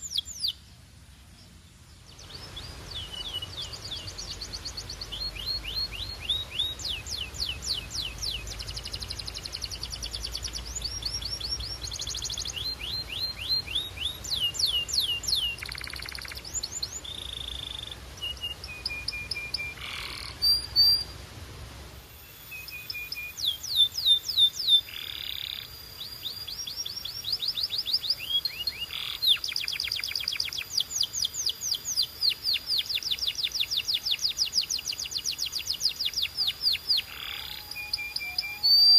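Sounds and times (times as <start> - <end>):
canary singing: 0.0 - 0.6, 2.1 - 21.1, 22.3 - 38.9.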